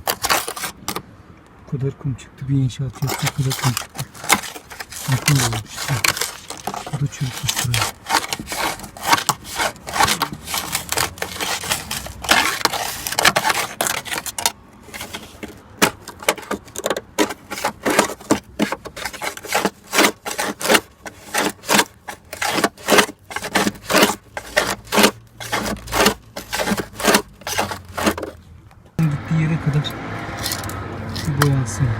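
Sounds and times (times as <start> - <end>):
scraping on metal: 0.0 - 1.0, 3.0 - 28.5.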